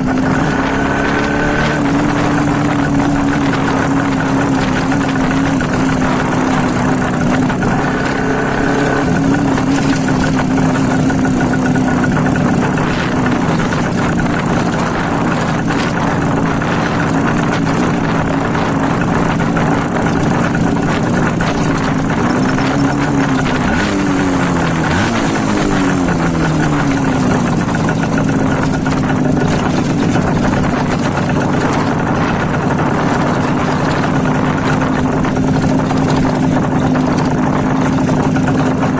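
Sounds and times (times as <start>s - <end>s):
motorcycle engine open exhaust: 0.0s - 38.9s.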